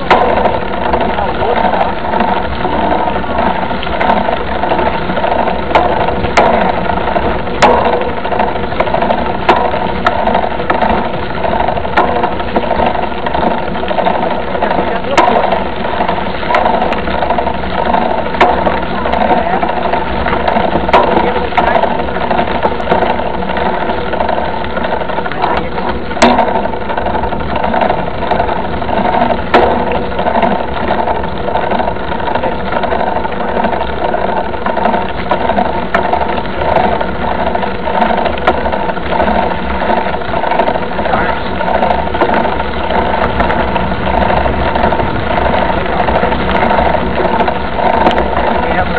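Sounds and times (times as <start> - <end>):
camera rattling on gravel road: 0.0 - 48.9
sharp knocks from bumps: 0.0 - 48.9.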